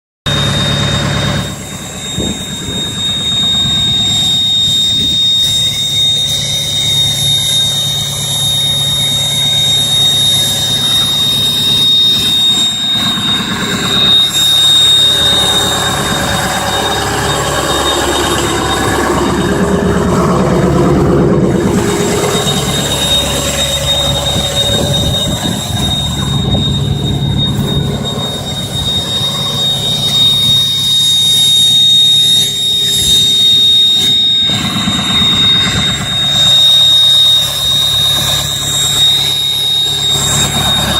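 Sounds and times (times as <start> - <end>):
diesel engine rumble: 0.3 - 40.9
turbocharger whistling: 0.3 - 40.9.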